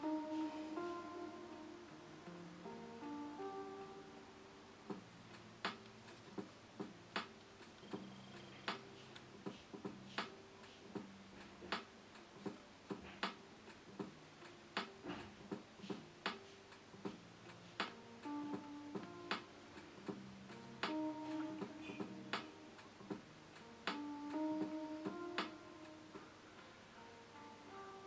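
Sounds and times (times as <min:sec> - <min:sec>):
quiet lofi hip-hop music: 0:00.0 - 0:28.0.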